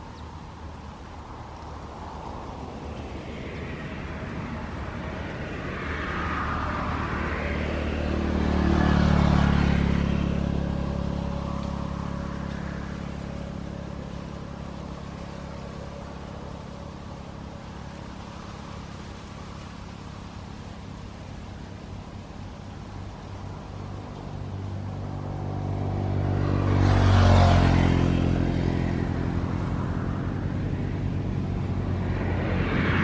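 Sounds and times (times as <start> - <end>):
vehicle engine passing by: 0.0 - 33.0.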